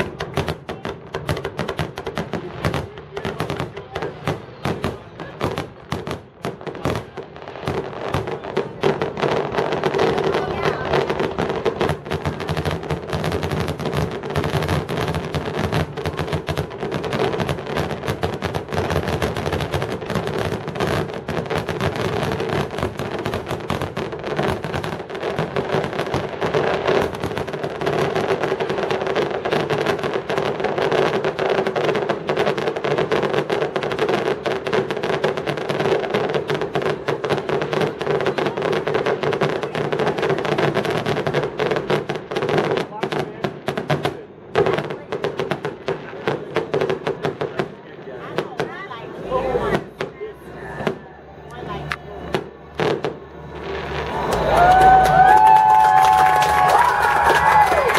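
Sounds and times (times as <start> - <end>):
fireworks bursting: 0.0 - 57.9.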